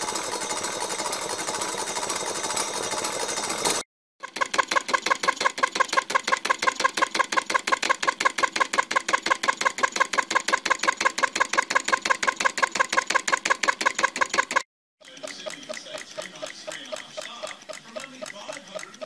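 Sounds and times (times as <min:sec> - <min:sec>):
model engine clicking: 0:00.0 - 0:19.0.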